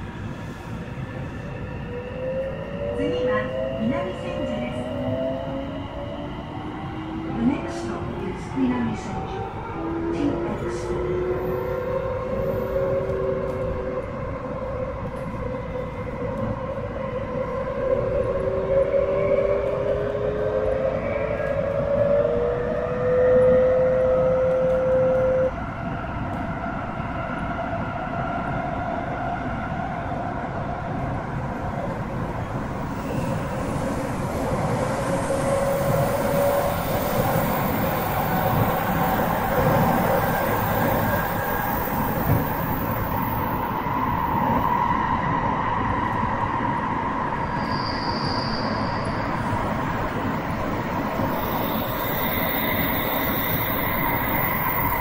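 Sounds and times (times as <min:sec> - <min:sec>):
wheels rumbling on rail: 0:02.6 - 0:26.6, 0:30.2 - 0:55.0.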